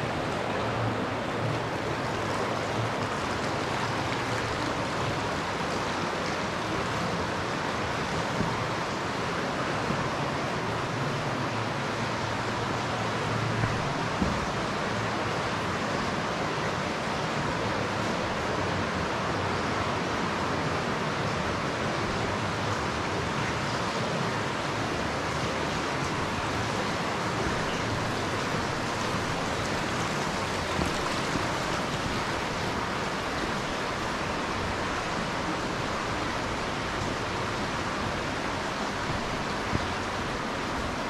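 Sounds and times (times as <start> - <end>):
stream water rushing: 0.0 - 41.0.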